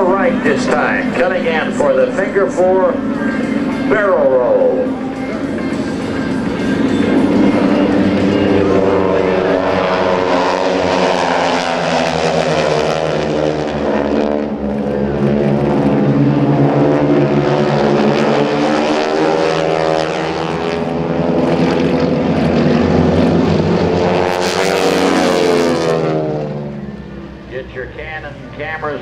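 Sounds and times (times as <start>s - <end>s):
propeller planes flying overhead: 0.0s - 29.0s.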